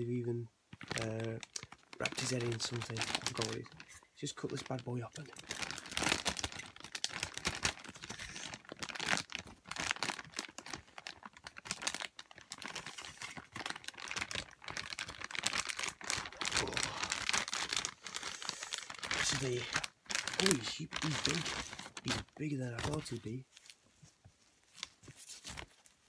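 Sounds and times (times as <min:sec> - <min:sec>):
plastic bag crinkling: 0:00.7 - 0:26.0.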